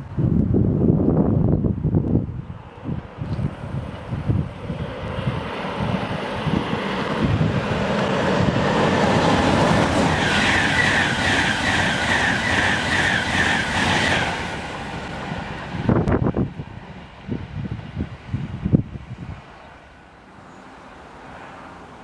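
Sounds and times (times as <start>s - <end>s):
wind buffeting microphone: 0.0s - 19.7s
express train rushing past: 0.0s - 22.0s.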